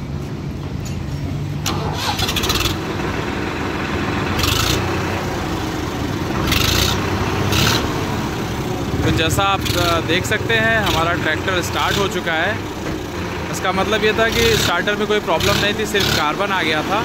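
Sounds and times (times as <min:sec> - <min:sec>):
tractor diesel engine starting: 0:01.3 - 0:17.0.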